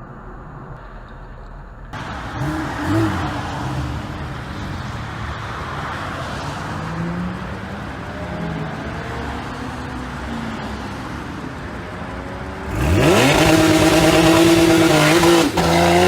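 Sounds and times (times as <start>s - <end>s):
car driving in traffic: 0.0s - 16.0s.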